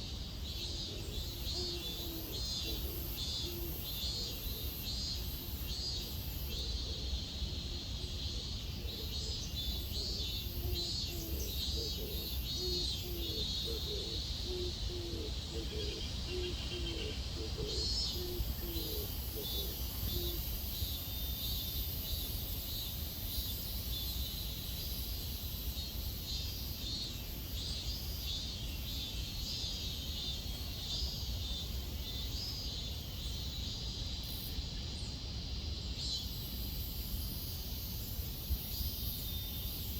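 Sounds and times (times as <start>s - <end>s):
cicadas calling: 0.0s - 39.9s
high insect trill: 0.0s - 39.9s.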